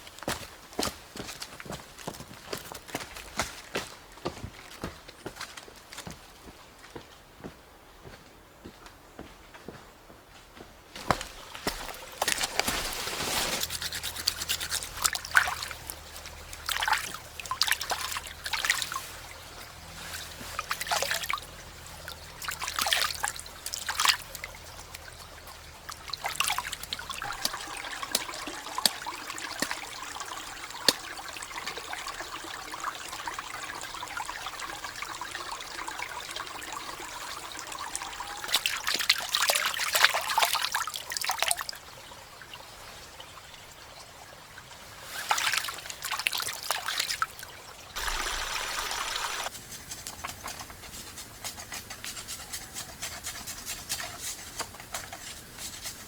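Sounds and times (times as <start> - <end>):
water pouring and splashing: 11.0 - 56.0
water trickling: 11.0 - 56.0.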